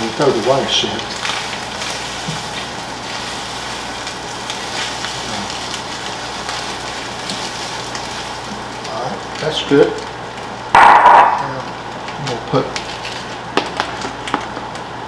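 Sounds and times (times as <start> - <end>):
food sizzling in a skillet: 0.0 - 14.0.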